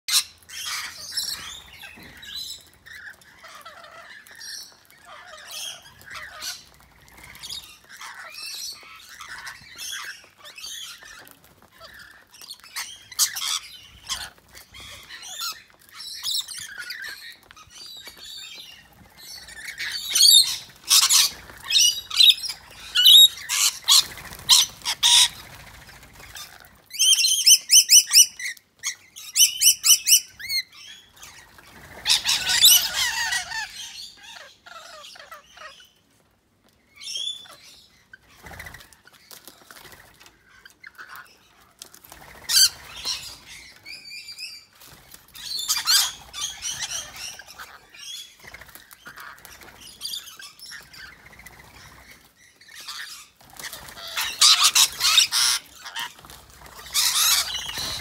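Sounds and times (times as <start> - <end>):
lorikeets chattering and screeching: 0.1 - 36.0, 36.9 - 58.0
repeated shrill bird calls: 0.1 - 36.1, 36.8 - 58.0.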